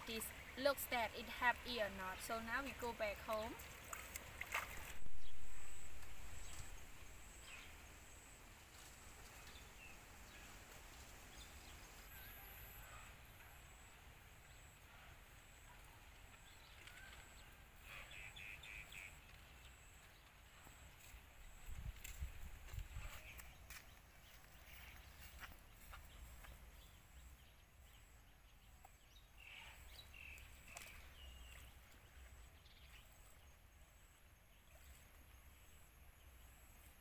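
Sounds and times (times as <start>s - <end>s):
countryside ambience: 0.0s - 37.0s.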